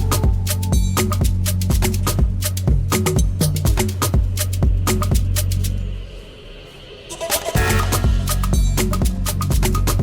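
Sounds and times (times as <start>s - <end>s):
low bass line: 0.0s - 6.0s, 7.6s - 10.0s
music with percussive beat: 0.0s - 6.0s, 7.0s - 10.0s.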